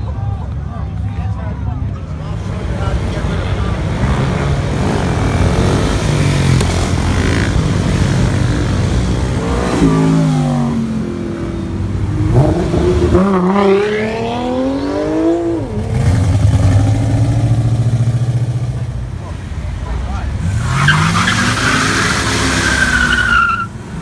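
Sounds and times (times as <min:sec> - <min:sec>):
car engines revving and accelerating: 0:01.8 - 0:24.0.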